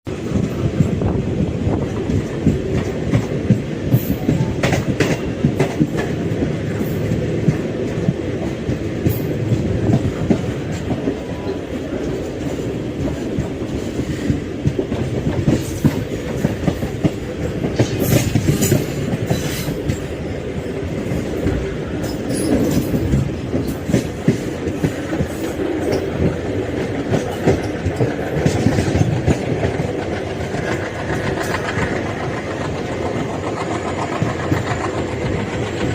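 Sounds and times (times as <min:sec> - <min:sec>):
diesel locomotive engine chugging: 0:00.2 - 0:35.9
wheels clattering over rail joints: 0:00.2 - 0:35.9.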